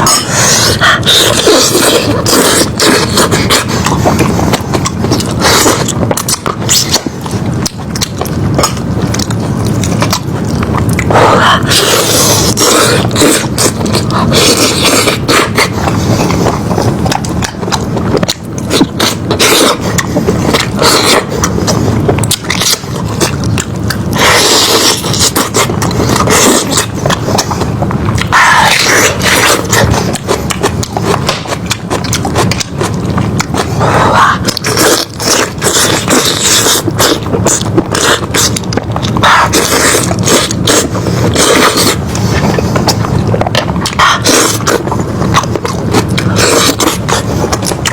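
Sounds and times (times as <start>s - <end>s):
biting and chewing meat: 0.0s - 47.9s.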